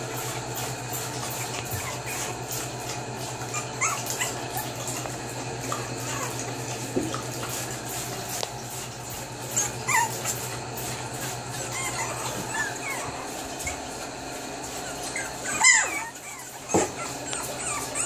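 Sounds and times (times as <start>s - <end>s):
puppies whimpering and yipping: 0.0s - 18.0s.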